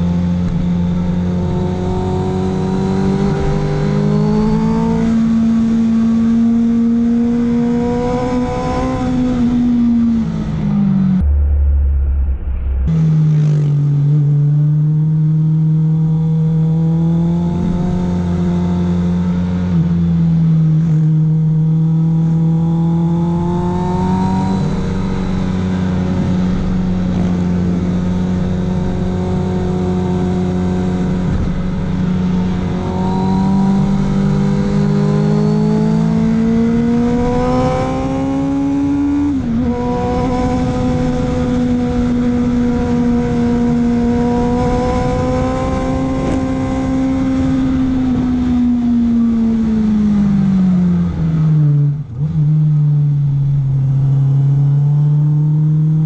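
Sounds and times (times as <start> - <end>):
motorcycle engine pulling under throttle: 0.0 - 11.2, 12.9 - 56.0.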